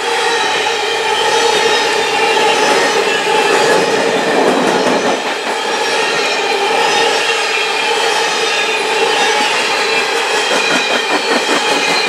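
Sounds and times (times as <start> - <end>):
steady ringing tones: 0.3 - 12.0
train wheels clattering on rails: 0.3 - 12.0.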